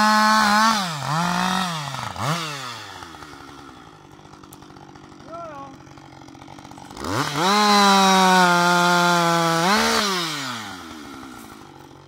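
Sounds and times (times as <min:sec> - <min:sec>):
chainsaw cutting through log: 0:00.0 - 0:12.0.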